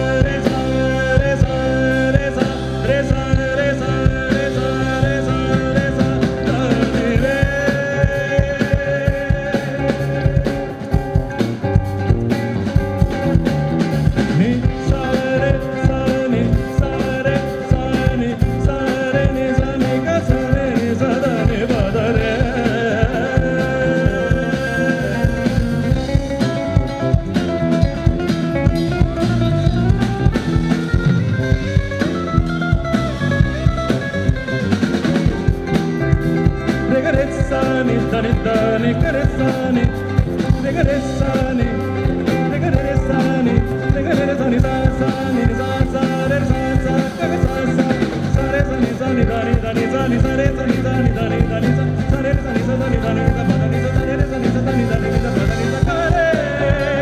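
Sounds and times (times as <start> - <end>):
person singing: 0.0 - 57.0
rock band playing live: 0.0 - 57.0
steady drum beat: 0.0 - 57.0.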